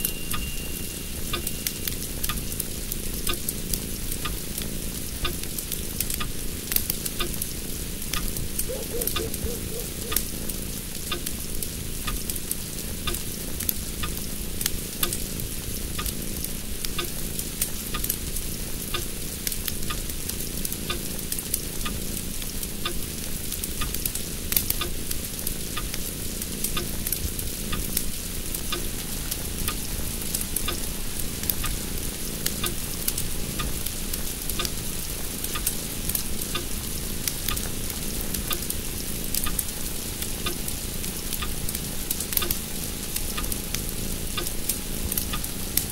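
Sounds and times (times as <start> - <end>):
crackling hiss with clicks: 0.0 - 45.9.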